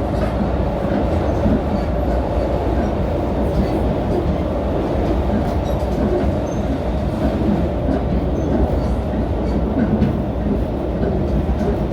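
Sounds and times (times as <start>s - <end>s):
train running low rumble: 0.0s - 11.9s.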